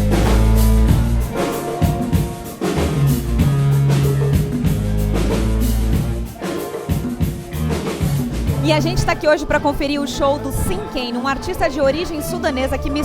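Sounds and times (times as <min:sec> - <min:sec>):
band music: 0:00.0 - 0:13.0
drum kit beat: 0:00.0 - 0:13.0.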